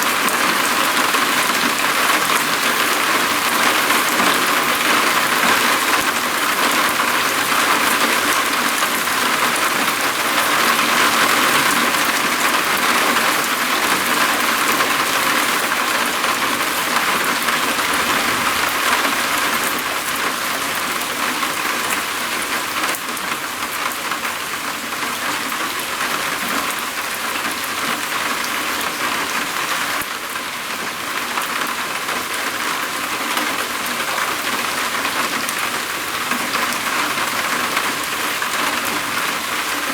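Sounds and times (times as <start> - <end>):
rain drumming on a roof: 0.0 - 39.9.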